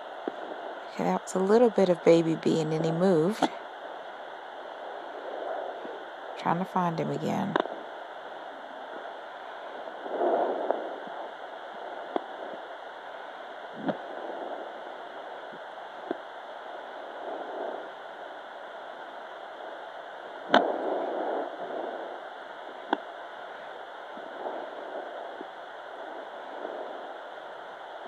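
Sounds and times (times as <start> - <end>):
doppler speaker hiss: 0.0 - 28.0.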